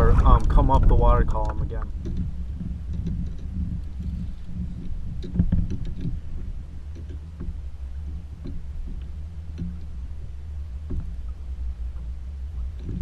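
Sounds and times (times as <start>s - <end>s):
low rumble: 0.0s - 13.0s
small knocks and clicks: 0.4s - 13.0s.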